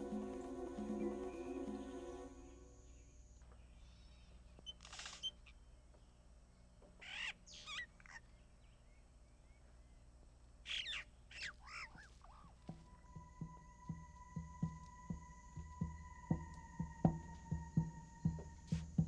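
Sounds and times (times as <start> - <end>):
birds chirping: 0.0 - 19.0
faint low hum: 0.0 - 19.0.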